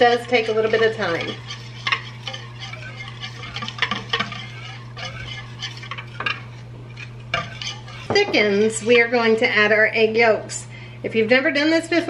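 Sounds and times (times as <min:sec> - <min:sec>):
whisk scraping metal bowl: 0:00.0 - 0:10.0
steady low hum: 0:00.0 - 0:12.0.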